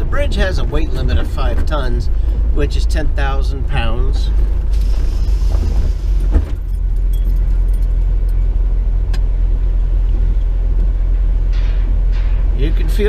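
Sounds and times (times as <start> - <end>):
vehicle cabin road rumble: 0.0 - 13.0.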